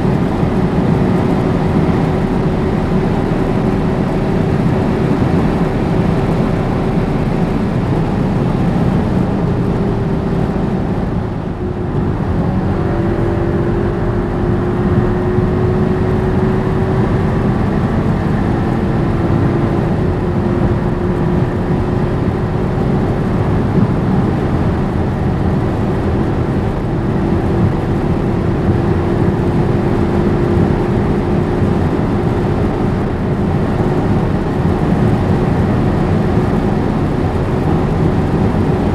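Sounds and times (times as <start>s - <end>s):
car engine drone: 0.0s - 38.9s
wind and tyre noise: 0.0s - 38.9s.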